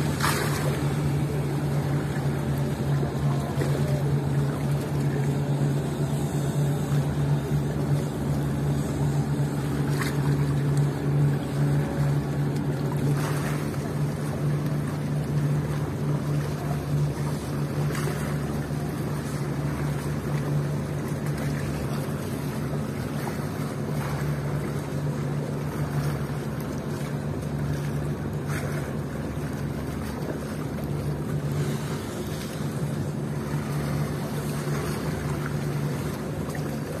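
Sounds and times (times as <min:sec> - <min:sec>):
ship engines droning: 0:00.0 - 0:37.0
waves washing against concrete: 0:00.0 - 0:37.0.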